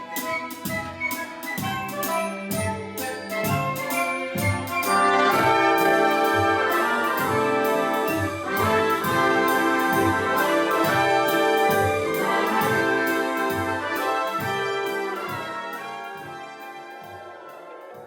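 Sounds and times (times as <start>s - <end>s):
brass: 0.0s - 18.0s
orchestra playing: 0.0s - 18.0s
steady drum beat: 0.0s - 18.0s.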